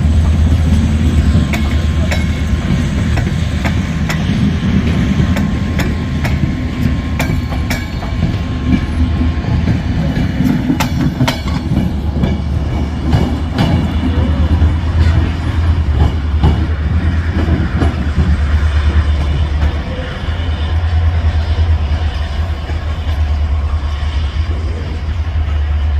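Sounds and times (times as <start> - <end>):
wheels clacking over rail joints: 0.0 - 23.4
train rumbling on track: 0.0 - 25.9.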